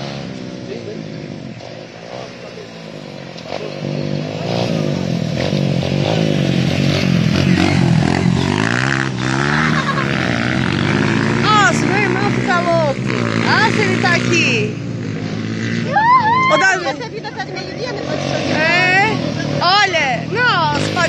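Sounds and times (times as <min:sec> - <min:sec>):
motorcycles revving past: 0:00.0 - 0:21.0.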